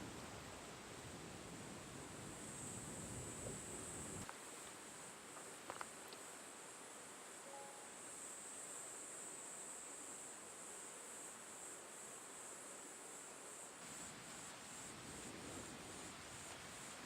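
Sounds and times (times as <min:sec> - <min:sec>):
wind and rustling leaves: 0:00.0 - 0:07.4, 0:08.0 - 0:17.0
insects chirring: 0:00.1 - 0:17.0.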